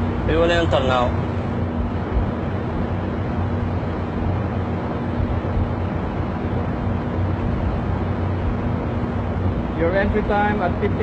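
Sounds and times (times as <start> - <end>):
ship machinery humming: 0.0 - 11.0.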